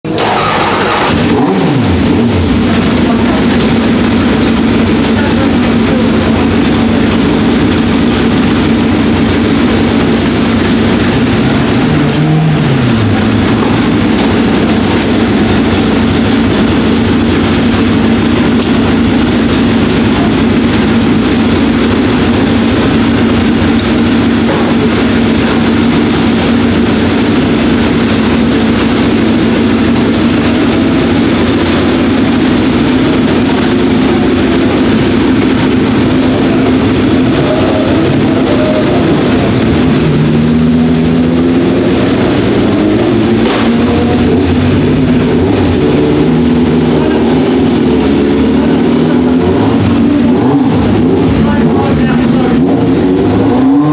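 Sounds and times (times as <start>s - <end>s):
racing car engine running: 0.0s - 53.9s.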